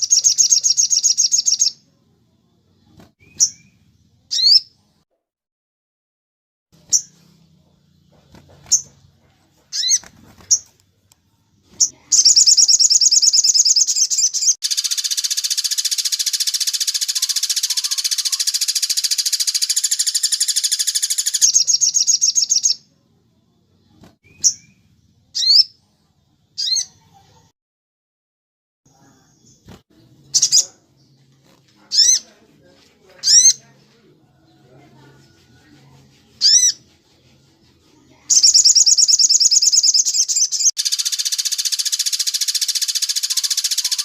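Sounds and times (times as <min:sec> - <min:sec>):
songbird chirping and trilling: 0:00.0 - 0:04.9, 0:06.8 - 0:27.5, 0:28.9 - 0:44.0.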